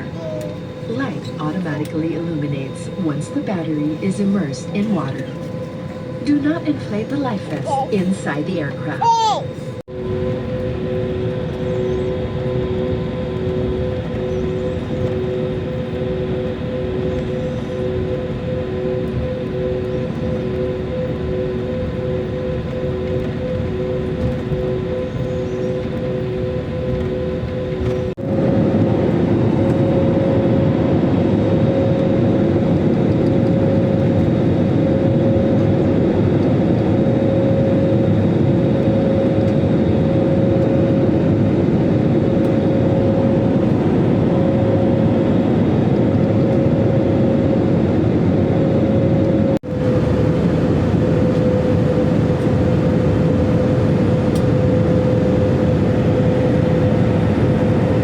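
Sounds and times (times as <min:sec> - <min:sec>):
airliner cabin engine roar: 0:00.0 - 0:58.0
constant hum: 0:00.0 - 0:58.0.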